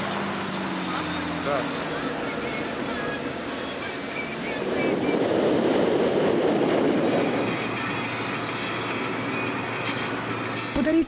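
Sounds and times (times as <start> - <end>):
road and engine rumble inside car: 0.0 - 11.0.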